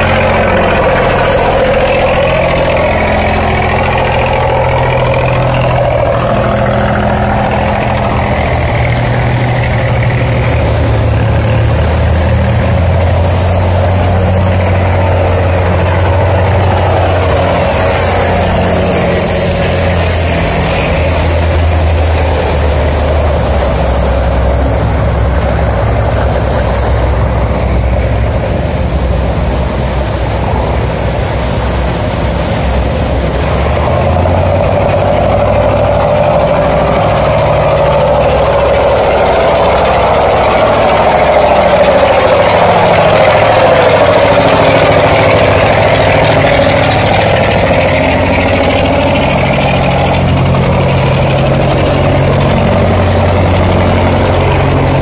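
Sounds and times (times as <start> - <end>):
boat engines running: 0.0 - 55.0
water rushing through sluice gate: 0.0 - 55.0.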